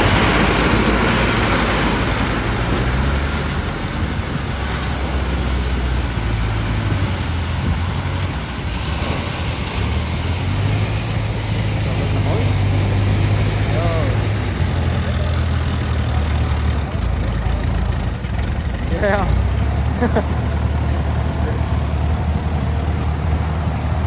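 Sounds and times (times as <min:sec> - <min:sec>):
diesel engine droning with rattle: 0:00.0 - 0:24.0.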